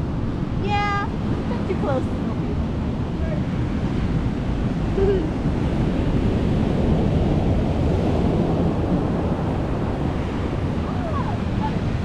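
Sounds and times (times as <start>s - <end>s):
ocean surf washing up beach: 0.0s - 12.0s
wind rumbling on microphone: 0.0s - 12.0s.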